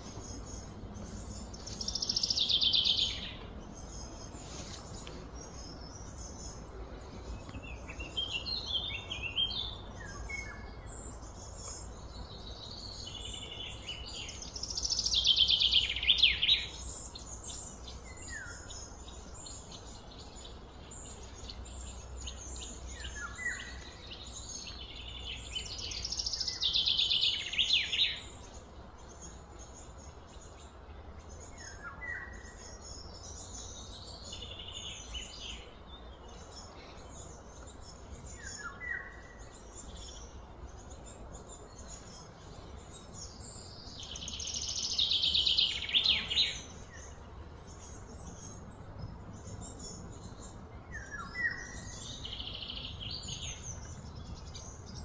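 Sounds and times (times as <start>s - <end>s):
bird chirps: 0.0s - 55.0s
bird song phrase: 0.0s - 55.0s.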